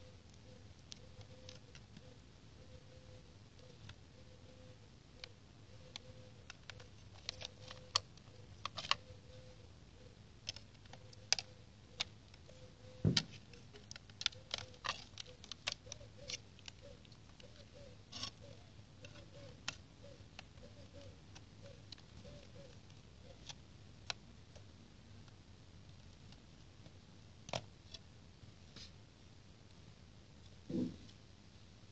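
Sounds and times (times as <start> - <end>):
faint steady tone and blips: 0.0 - 31.9.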